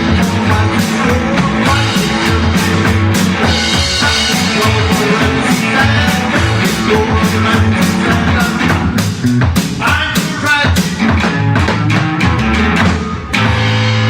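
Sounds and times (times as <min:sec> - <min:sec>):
rock and roll band playing: 0:00.0 - 0:14.0.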